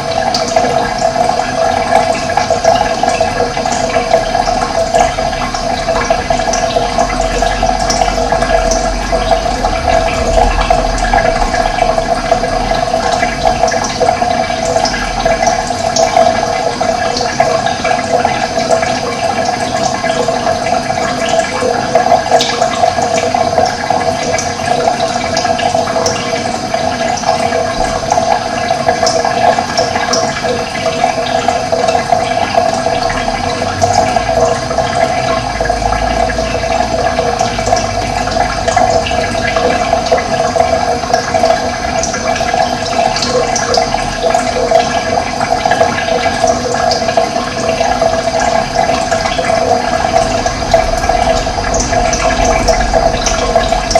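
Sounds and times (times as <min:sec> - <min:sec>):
running water splashing: 0:00.0 - 0:53.9.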